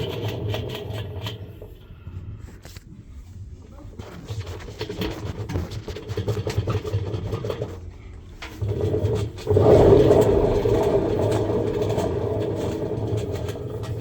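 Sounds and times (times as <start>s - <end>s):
washing machine drum turning noisily: 0.0s - 2.2s, 4.0s - 14.0s.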